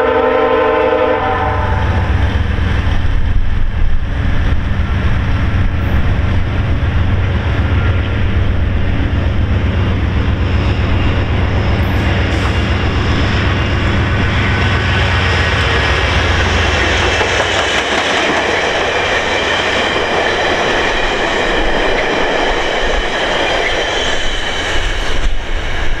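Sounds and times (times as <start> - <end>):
diesel locomotive rumble: 0.0 - 26.0
train wheels rushing on rails: 0.0 - 26.0.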